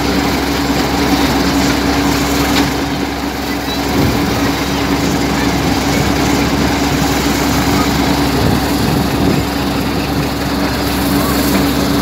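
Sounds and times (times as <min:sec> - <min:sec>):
thresher machine droning: 0:00.0 - 0:12.0.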